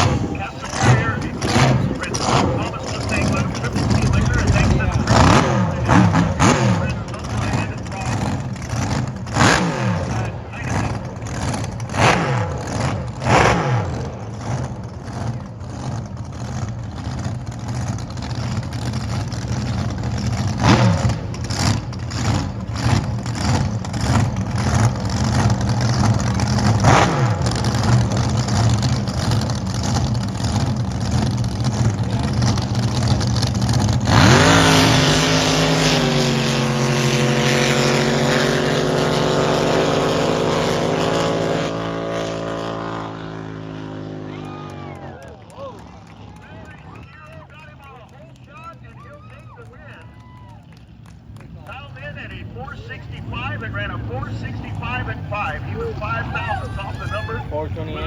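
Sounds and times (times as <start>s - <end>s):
boat engines full-throttle launch: 0.0s - 58.0s
boat engines idling lumpily: 0.0s - 58.0s.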